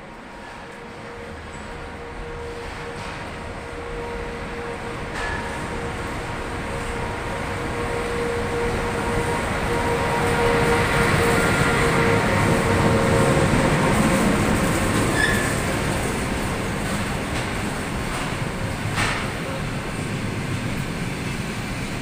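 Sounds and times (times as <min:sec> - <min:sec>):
electric locomotive whine: 0:00.0 - 0:22.0
wheels rumbling on rail: 0:00.0 - 0:22.0.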